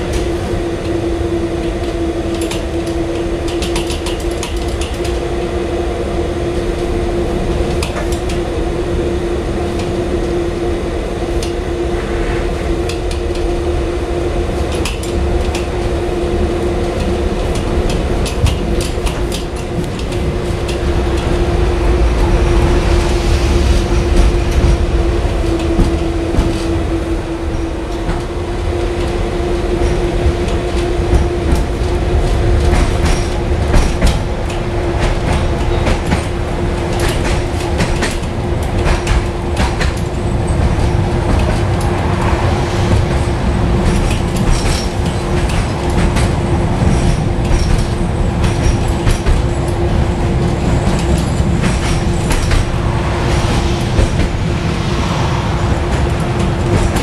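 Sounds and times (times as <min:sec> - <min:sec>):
tram rumble and hum: 0:00.0 - 0:57.0.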